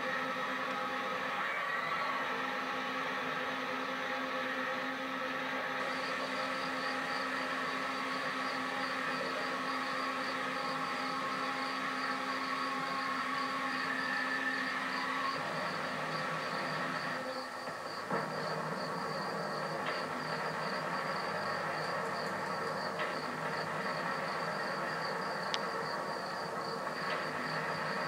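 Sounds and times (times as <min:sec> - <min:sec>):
diesel locomotive hum: 0:00.0 - 0:28.0.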